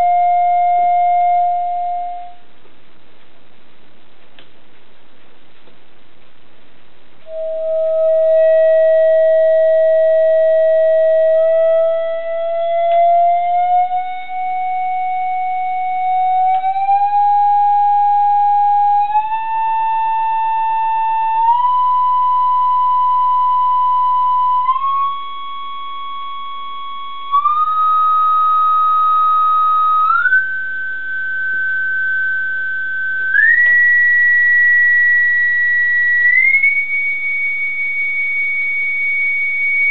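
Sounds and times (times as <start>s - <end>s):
electronic test tone rising: 0.0s - 2.4s, 7.2s - 39.9s.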